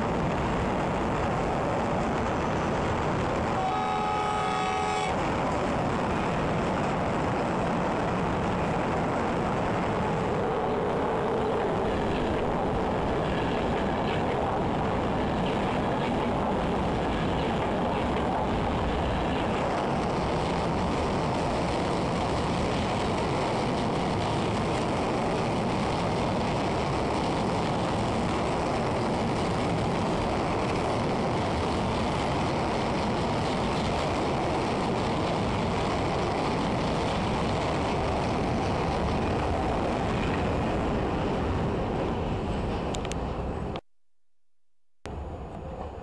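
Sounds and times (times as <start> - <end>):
train wheels running over rails: 5.1 - 43.8.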